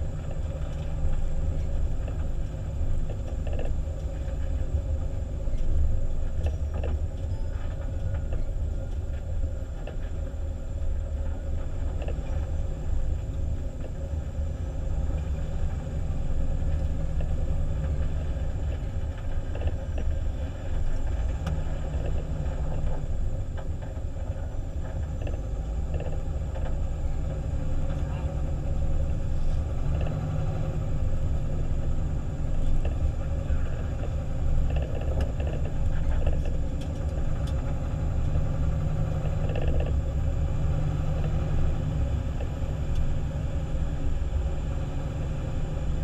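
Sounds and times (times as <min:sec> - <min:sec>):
fire engine low rumble: 0:00.0 - 0:46.0.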